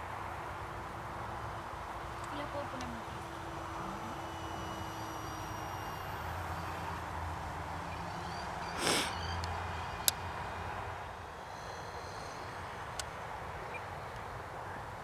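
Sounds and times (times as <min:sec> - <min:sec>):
steady outdoor hiss: 0:00.0 - 0:15.0
distant electric motor whine: 0:00.6 - 0:15.0.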